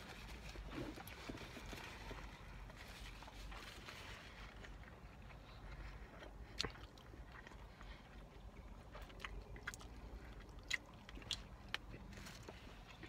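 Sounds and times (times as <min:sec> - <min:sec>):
close chewing: 0:00.0 - 0:13.0.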